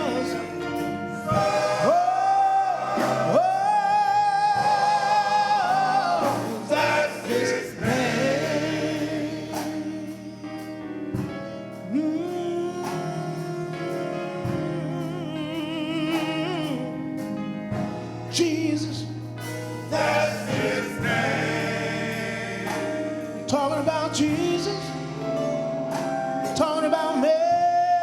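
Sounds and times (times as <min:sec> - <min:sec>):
sustained instrumental chords: 0:00.0 - 0:27.9
gospel singing: 0:00.0 - 0:28.0.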